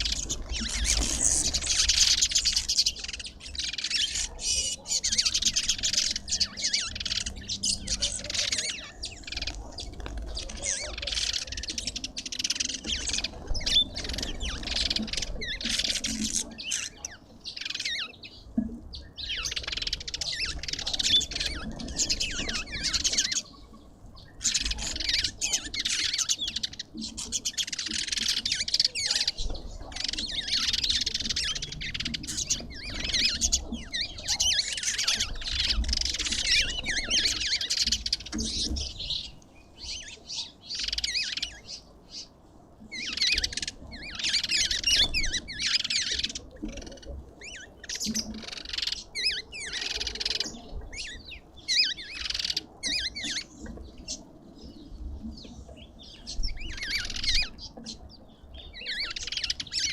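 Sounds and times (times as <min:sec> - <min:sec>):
birds chattering and squawking: 0:00.0 - 0:59.9.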